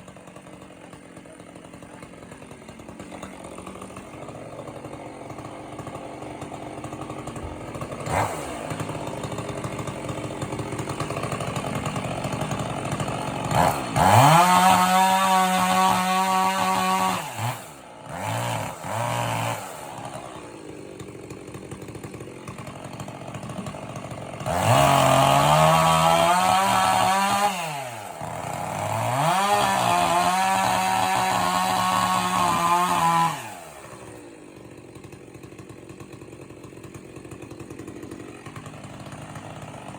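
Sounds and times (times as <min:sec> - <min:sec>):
chainsaw engine idling and revving: 0:00.0 - 0:39.9.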